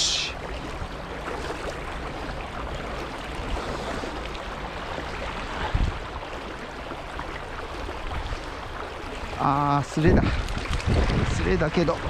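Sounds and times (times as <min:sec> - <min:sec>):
stream rushing water: 0:00.0 - 0:12.0.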